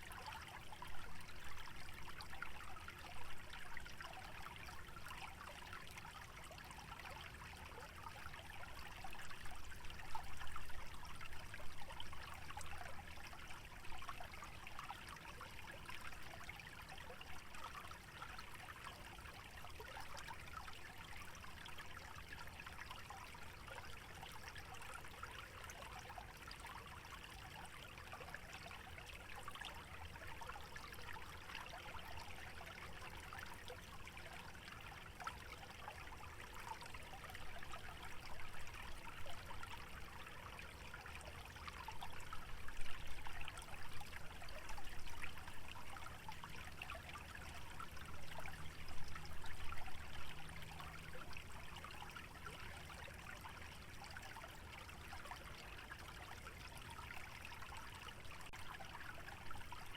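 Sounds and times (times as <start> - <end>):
stream trickling and burbling: 0.0 - 59.9.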